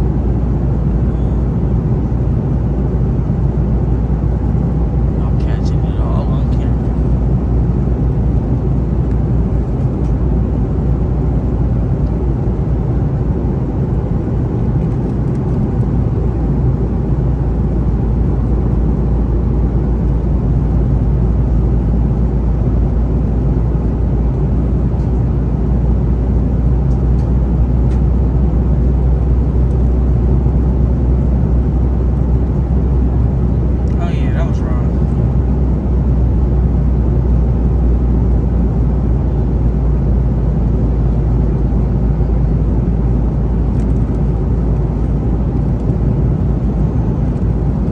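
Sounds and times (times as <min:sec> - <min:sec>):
vehicle cabin rumble: 0:00.0 - 0:47.9.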